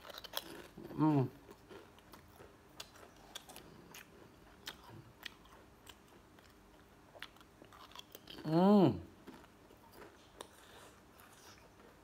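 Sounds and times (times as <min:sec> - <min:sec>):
potato chips being chewed: 0:00.0 - 0:08.6, 0:09.2 - 0:12.0.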